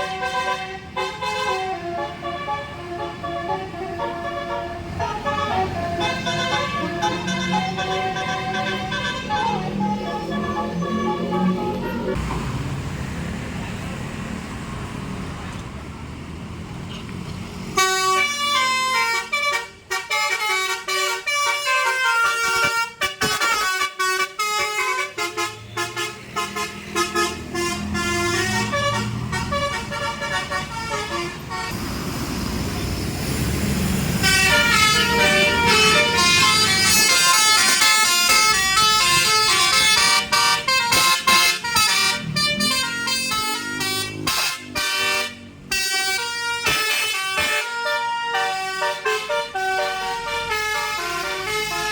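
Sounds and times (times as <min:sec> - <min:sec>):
bus musical horn melody: 0:00.0 - 0:12.2, 0:17.7 - 0:31.8, 0:34.0 - 0:51.9
engine and traffic rumble: 0:00.0 - 0:51.9.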